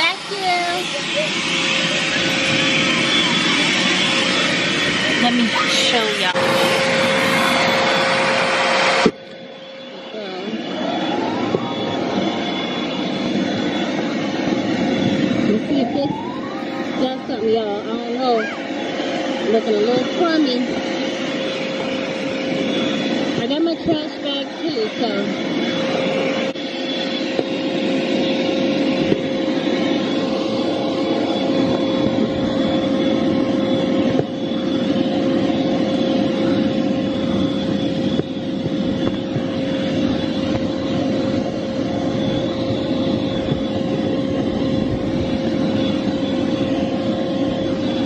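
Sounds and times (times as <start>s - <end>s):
vacuum cleaner whining: 0.0s - 48.0s.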